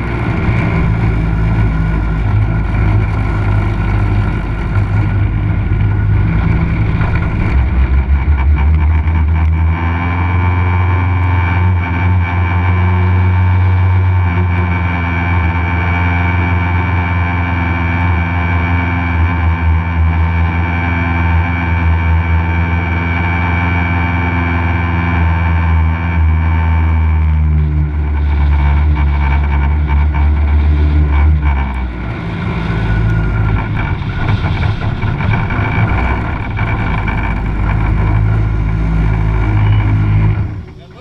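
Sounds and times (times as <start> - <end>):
race car engine under load: 0.0 - 41.0.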